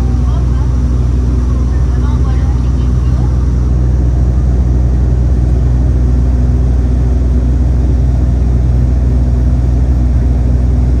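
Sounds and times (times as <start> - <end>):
airliner engines and propellers droning: 0.0 - 11.0.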